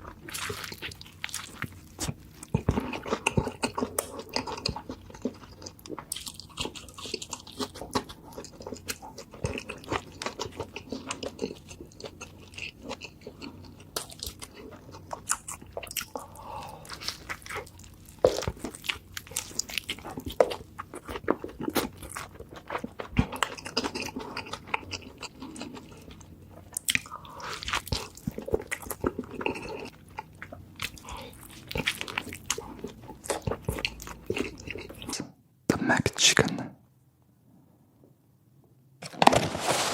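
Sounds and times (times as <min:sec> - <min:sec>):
person chewing food: 0:00.0 - 0:35.2.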